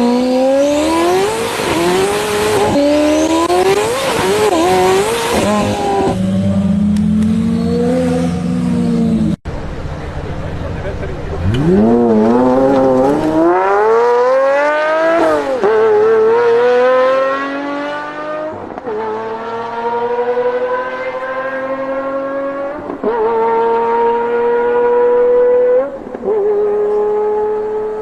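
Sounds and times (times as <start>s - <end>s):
sports car engine accelerating: 0.0s - 9.4s, 10.0s - 28.0s.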